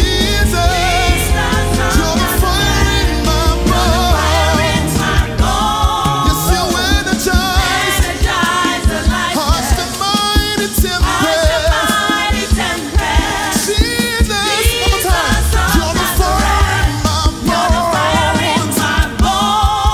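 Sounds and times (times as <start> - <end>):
backing band: 0.0 - 19.9
group singing gospel song: 0.0 - 19.9
steady drum beat: 0.0 - 19.9.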